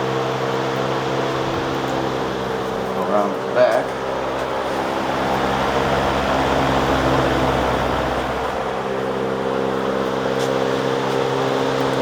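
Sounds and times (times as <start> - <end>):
fan air rushing: 0.0 - 12.0.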